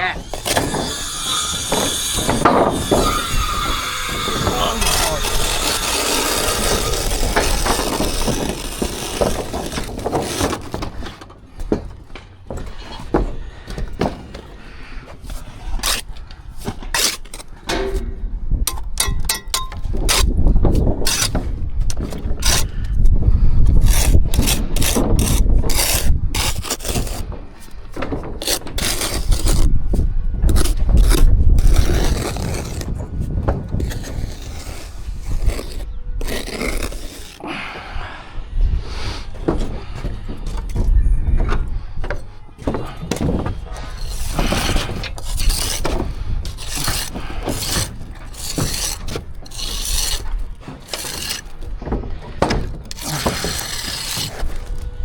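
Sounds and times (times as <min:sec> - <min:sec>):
hand tools scraping on brick: 0:00.0 - 0:38.0, 0:38.9 - 0:55.0.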